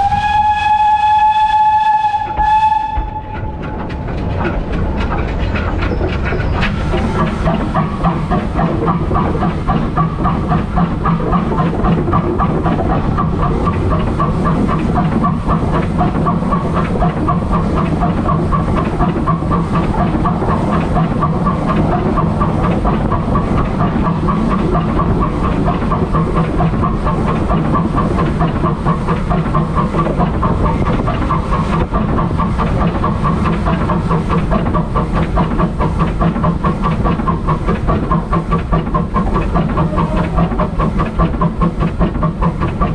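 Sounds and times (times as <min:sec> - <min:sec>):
train rumble and wheel clatter: 0:00.0 - 0:42.9
hiss: 0:06.7 - 0:42.9.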